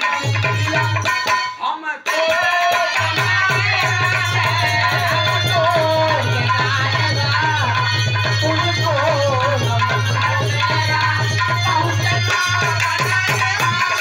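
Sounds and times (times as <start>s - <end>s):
dholak drum beat: 0.0s - 14.0s.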